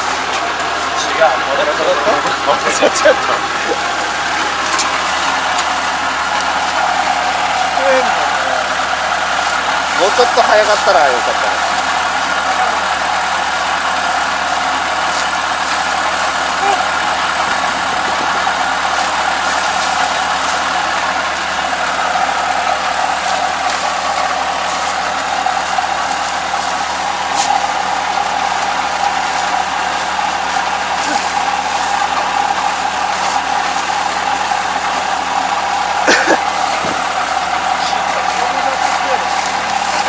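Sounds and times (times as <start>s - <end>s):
combine harvester running: 0.0s - 40.0s.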